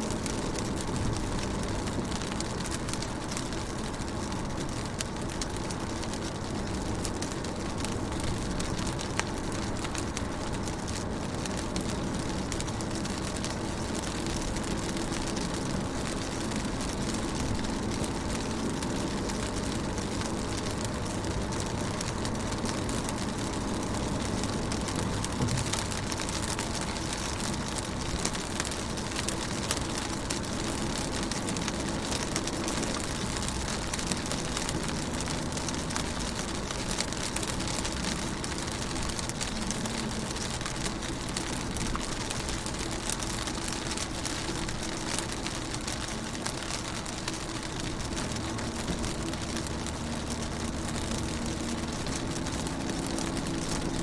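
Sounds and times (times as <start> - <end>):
low steady rumble: 0.0 - 54.0
rain on car windows: 0.0 - 54.0.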